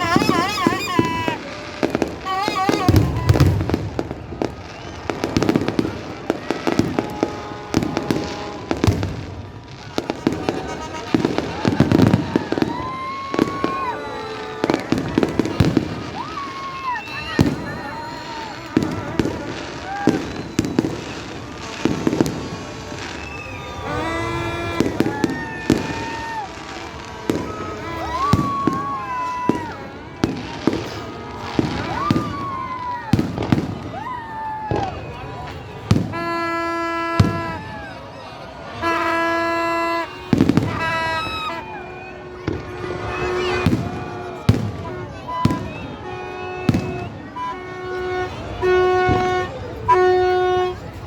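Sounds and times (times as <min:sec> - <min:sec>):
deep fireworks booms: 0:00.0 - 0:39.3, 0:40.0 - 0:41.5, 0:42.4 - 0:46.0, 0:46.6 - 0:47.3
fireworks bangs and crackles: 0:00.0 - 0:51.0.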